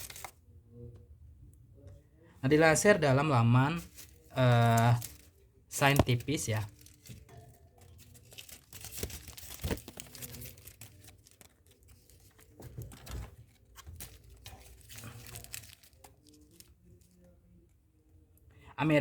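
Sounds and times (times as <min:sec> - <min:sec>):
rustling handling noise: 0:00.0 - 0:00.4, 0:03.2 - 0:18.2.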